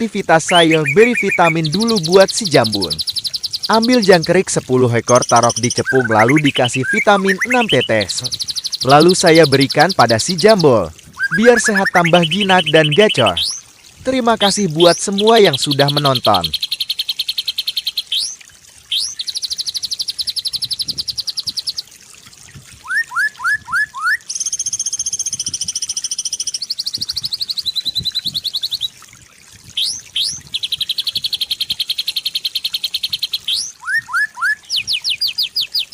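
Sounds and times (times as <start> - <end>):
myna bird singing trills: 0.0 - 21.8, 22.8 - 29.0, 29.7 - 35.9.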